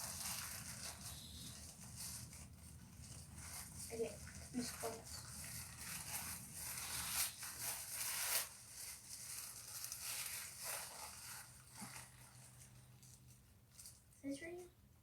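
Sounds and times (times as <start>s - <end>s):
gift wrapping crinkling: 0.0s - 14.6s.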